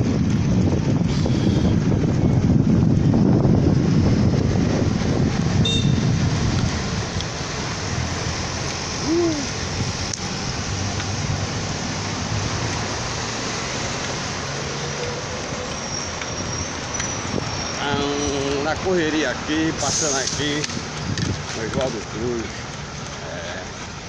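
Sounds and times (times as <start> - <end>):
wind rushing over microphone: 0.0 - 22.5
street traffic: 0.0 - 24.0.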